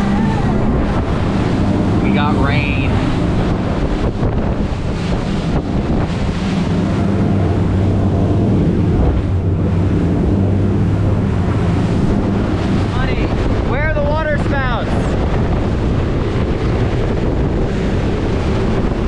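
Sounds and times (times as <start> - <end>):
outboard engine drone: 0.0 - 19.0
rushing water: 0.0 - 19.0
wind buffeting microphone: 0.0 - 19.0.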